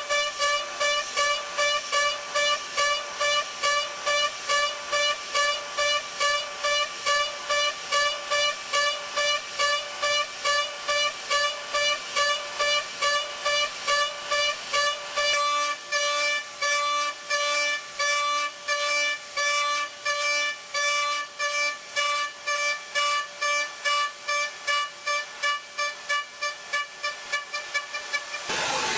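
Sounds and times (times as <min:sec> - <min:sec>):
cnc mill spindle pulsing tone: 0:00.0 - 0:28.9.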